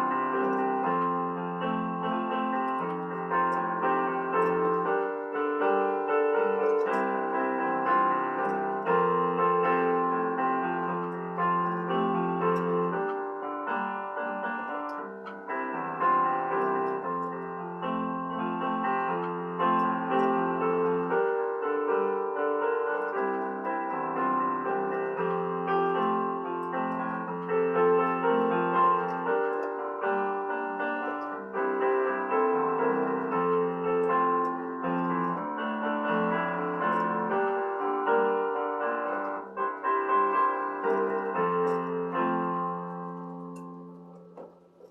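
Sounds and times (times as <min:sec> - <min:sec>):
slow piano music: 0:00.0 - 0:44.9.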